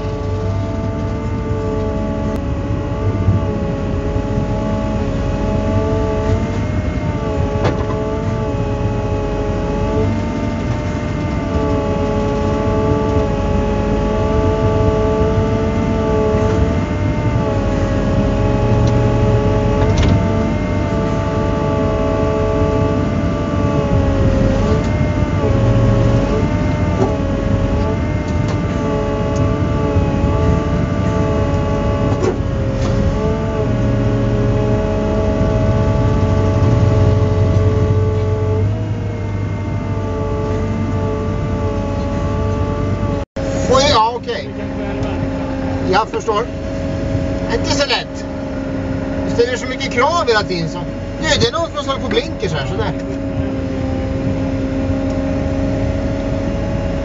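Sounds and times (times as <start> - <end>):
excavator engine and hydraulics: 0.0 - 57.0
hydraulic whine: 0.0 - 57.0.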